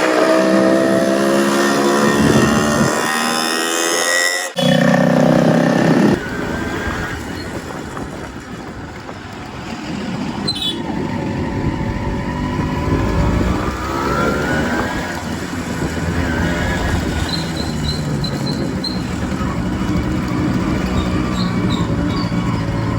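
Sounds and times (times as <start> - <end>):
two-stroke motorcycle engine running: 0.0 - 3.4, 4.6 - 22.9.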